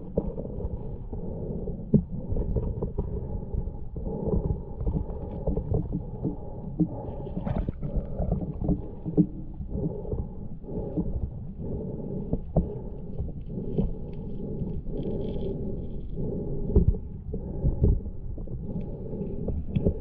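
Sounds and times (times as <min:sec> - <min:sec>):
underwater rumble of moving water: 0:00.0 - 0:20.0.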